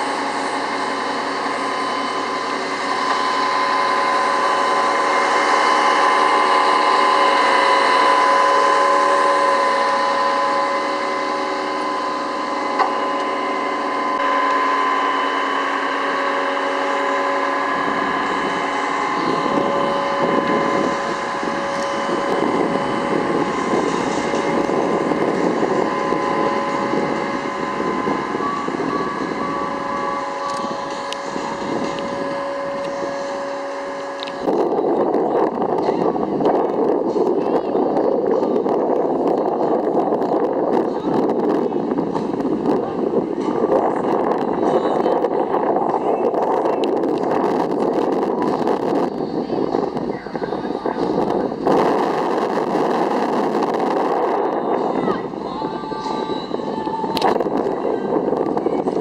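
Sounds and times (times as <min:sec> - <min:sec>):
engine and hydraulic whine: 0:00.0 - 0:59.0
wind buffeting microphone: 0:00.0 - 0:59.0.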